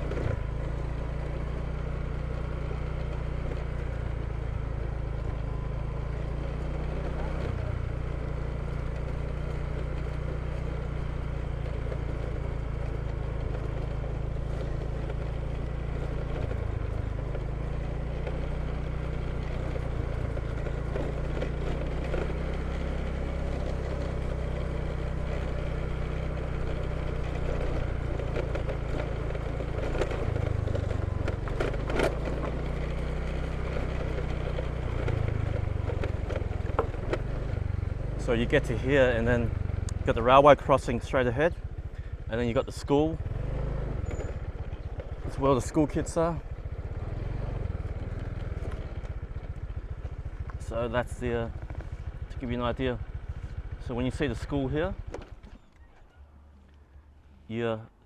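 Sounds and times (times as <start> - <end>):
motor scooter engine running: 0.0 - 57.6
wind and road noise: 0.0 - 58.0.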